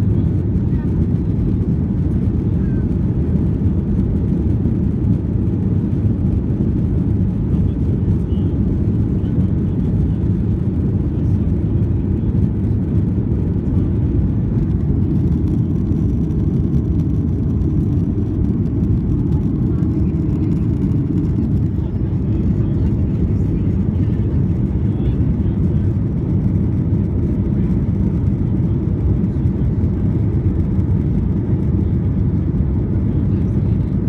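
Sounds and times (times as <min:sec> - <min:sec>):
jet engines and rushing air: 0:00.0 - 0:34.0.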